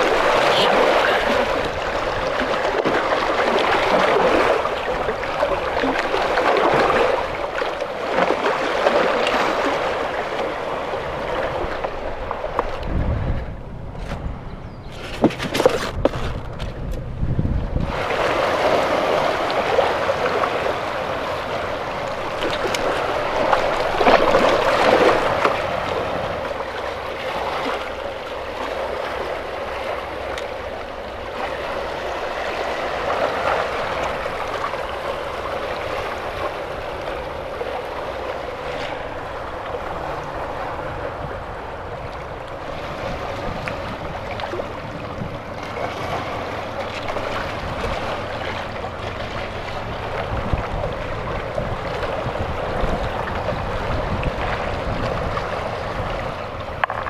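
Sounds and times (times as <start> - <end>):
small waves washing among rocks: 0.0 - 14.1, 17.7 - 57.0.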